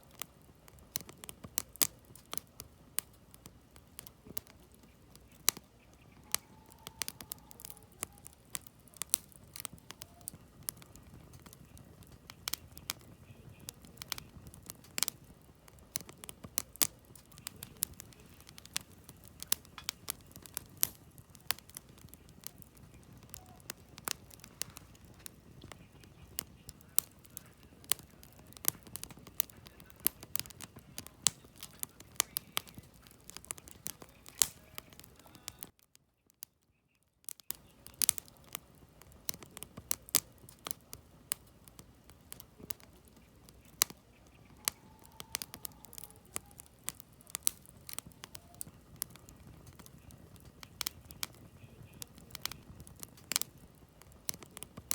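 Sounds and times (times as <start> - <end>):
flames rumbling: 0.0 - 35.8, 37.3 - 54.9
campfire crackling and popping: 0.0 - 54.9.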